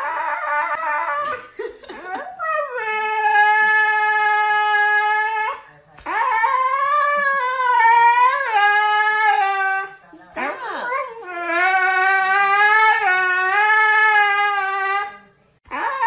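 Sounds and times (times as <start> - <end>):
dog whimpering and howling: 0.0 - 1.4, 2.1 - 16.0.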